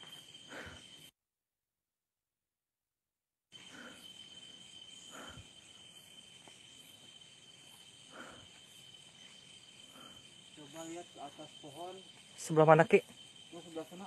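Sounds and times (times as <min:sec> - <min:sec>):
night insects trilling: 0:00.0 - 0:01.1, 0:03.5 - 0:14.0.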